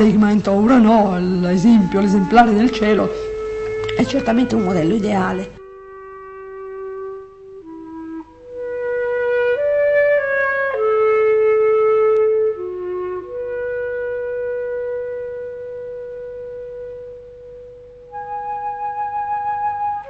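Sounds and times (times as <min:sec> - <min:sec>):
slow solo woodwind melody: 0:00.6 - 0:20.0.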